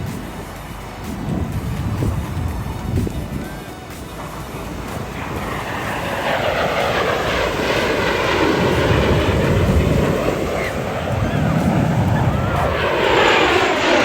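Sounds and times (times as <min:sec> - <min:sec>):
airplane engine roar: 0:00.0 - 0:14.0.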